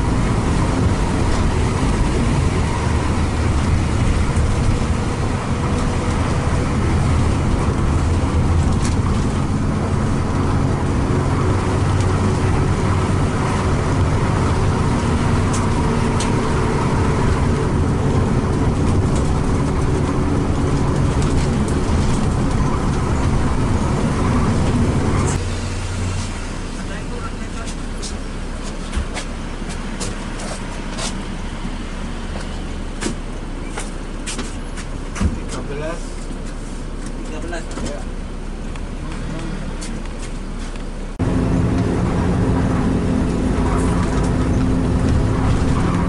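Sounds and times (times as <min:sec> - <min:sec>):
coach engine hum: 0:00.0 - 0:46.0
road noise: 0:00.0 - 0:46.0.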